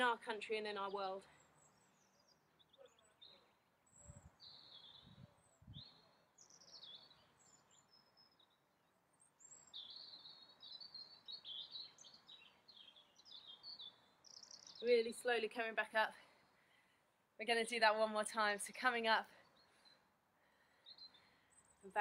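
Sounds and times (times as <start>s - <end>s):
small birds chirping and trilling: 0.8s - 16.9s, 18.7s - 22.0s.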